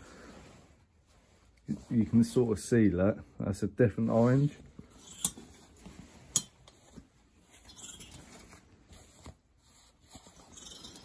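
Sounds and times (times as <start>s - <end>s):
fabric rustling: 0.0s - 2.9s, 4.0s - 11.0s.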